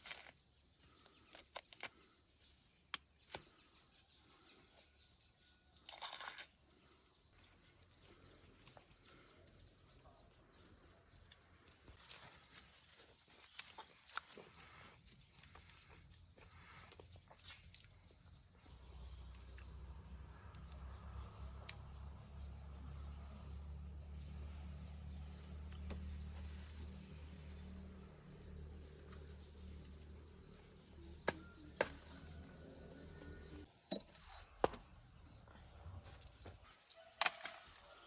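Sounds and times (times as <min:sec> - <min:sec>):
insects chirping: 0:00.0 - 0:38.0.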